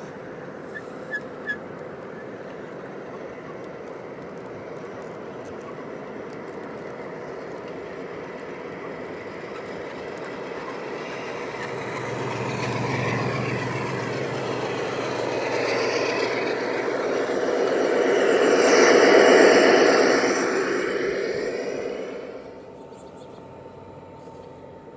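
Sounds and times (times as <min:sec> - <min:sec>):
locomotive motors humming and whining: 0:00.0 - 0:24.9
model train wheels rumbling on rails: 0:00.0 - 0:24.9.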